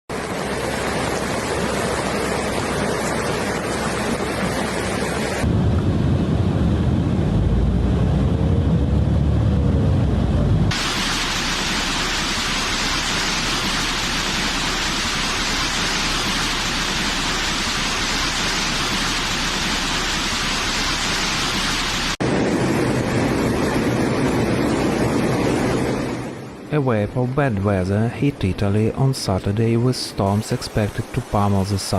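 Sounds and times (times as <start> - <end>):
rushing water: 0.1 - 5.9, 10.2 - 31.9
heavy rain: 0.1 - 27.4, 28.8 - 31.9
heavy low rumble: 0.2 - 29.8.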